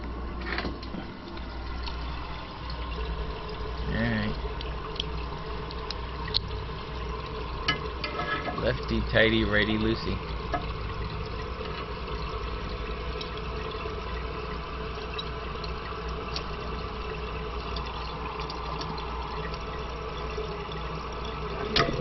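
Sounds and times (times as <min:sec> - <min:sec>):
toilet tank refilling: 0:00.0 - 0:22.0.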